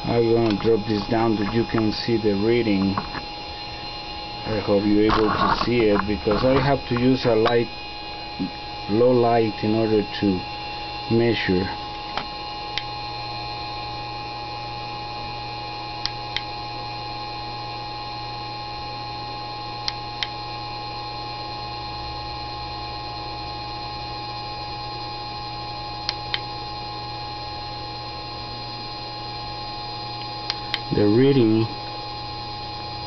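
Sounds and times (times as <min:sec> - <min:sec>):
electric motor humming and whining: 0:00.0 - 0:33.0.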